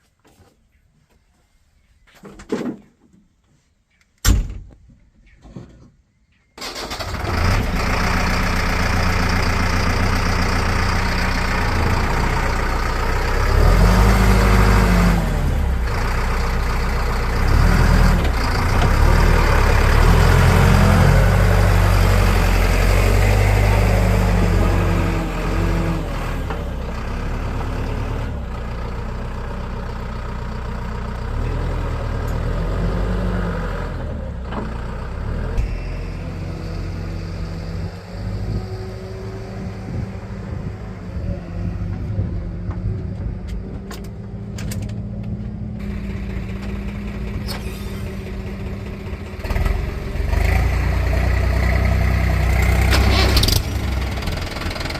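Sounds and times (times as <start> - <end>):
diesel engine revving: 6.6 - 54.9.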